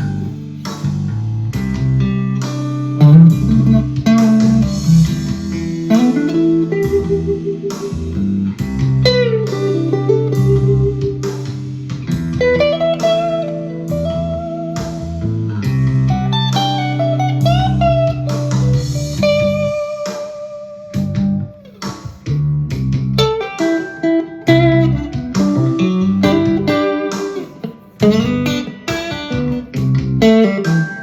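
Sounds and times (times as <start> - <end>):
backing track: 0.0 - 31.0
electric guitar lead with bends: 0.0 - 31.0.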